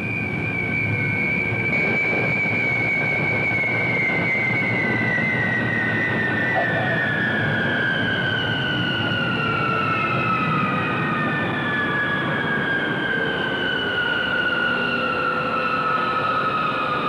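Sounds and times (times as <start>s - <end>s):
high jet engine whines: 0.0s - 17.0s
jet aircraft roar: 0.0s - 17.0s.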